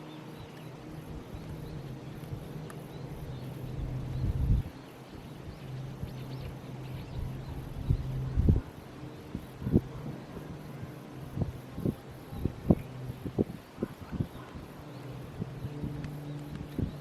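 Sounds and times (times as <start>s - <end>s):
steady low hum: 0.0s - 17.0s
wind buffeting microphone: 0.2s - 17.0s.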